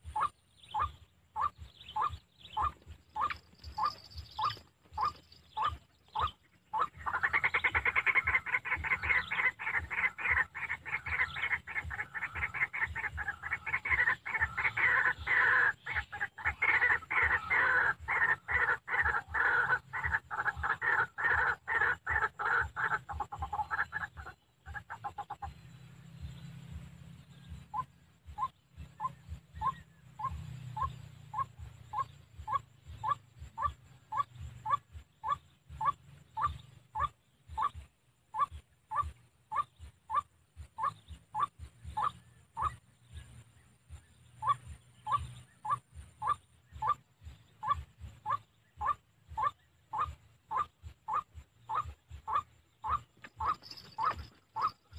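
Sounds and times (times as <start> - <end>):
waterhen calling: 0.0 - 25.7, 27.6 - 54.9.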